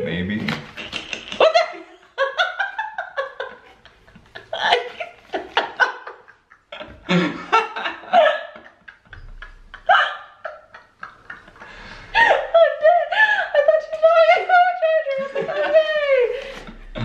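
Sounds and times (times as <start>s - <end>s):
laughter: 1.2s - 16.7s.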